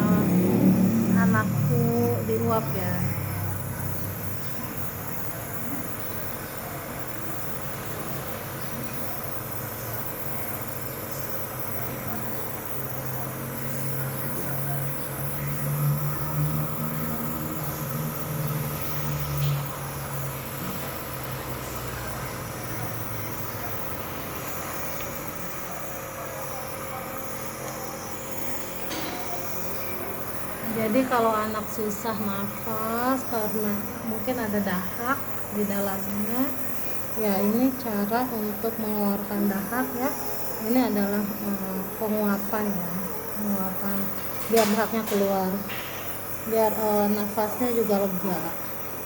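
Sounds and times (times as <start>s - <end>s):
nebulizer compressor hum and hiss: 0.0s - 49.0s.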